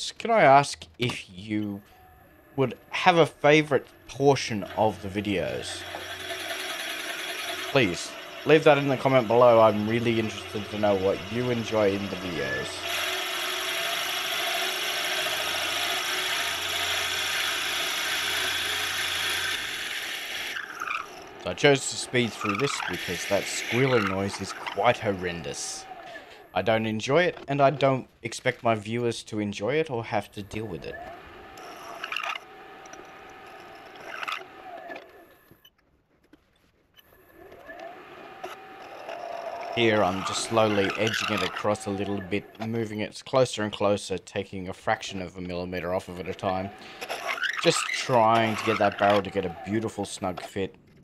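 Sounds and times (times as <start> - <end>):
lathe low hum: 0.0 - 35.6, 37.0 - 43.1, 44.9 - 51.0
drill bit squealing in wood: 1.0 - 28.0, 30.4 - 35.6, 37.0 - 43.0, 44.9 - 50.6.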